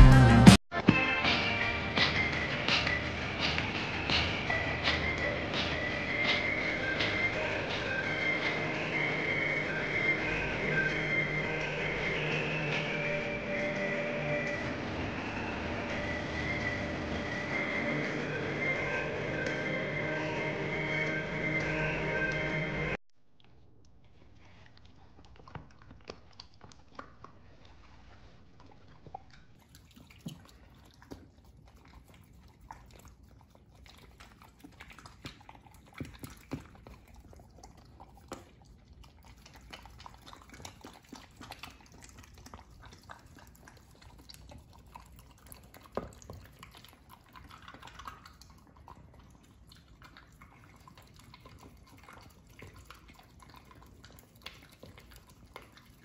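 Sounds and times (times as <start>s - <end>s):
dog chewing and licking: 2.0s - 22.5s, 23.4s - 56.0s.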